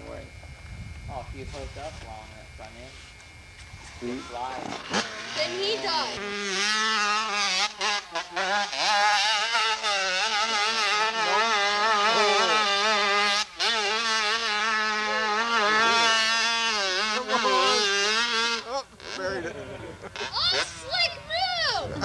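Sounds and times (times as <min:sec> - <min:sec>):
dirt bike engine revving: 0:03.8 - 0:22.0.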